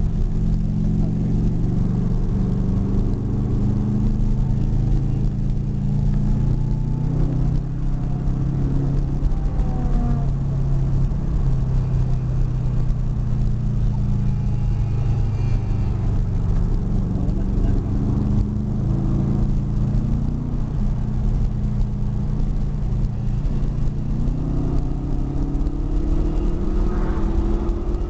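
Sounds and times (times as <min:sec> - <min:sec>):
car engine running: 0:00.0 - 0:28.0
road noise inside car: 0:00.0 - 0:28.0.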